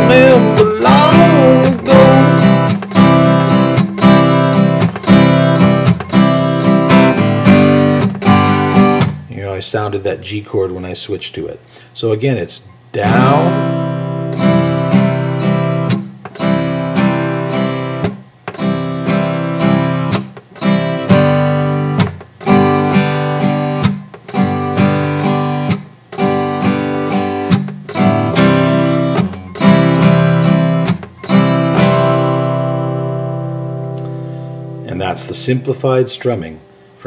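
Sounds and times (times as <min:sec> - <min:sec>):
acoustic guitar strumming: 0:00.0 - 0:09.5, 0:12.6 - 0:36.8.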